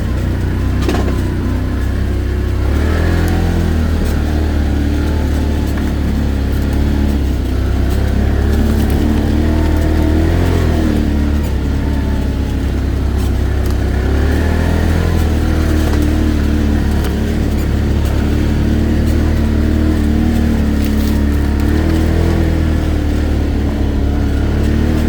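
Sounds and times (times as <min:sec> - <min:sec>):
atv engine running: 0:00.0 - 0:25.0
heavy low rumble: 0:00.0 - 0:25.0.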